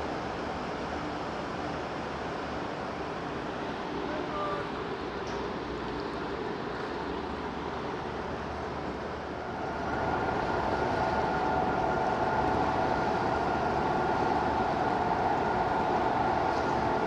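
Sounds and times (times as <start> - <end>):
mechanical hum with whine: 0.0 - 17.0.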